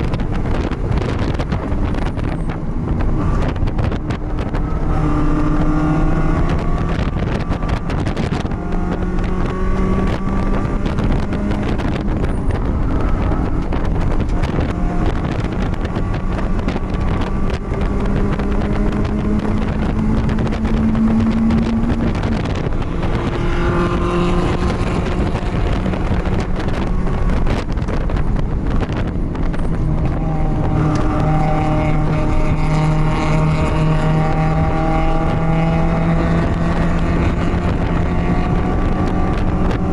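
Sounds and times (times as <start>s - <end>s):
race car engine revving: 0.0s - 39.9s
wind rushing: 0.0s - 39.9s.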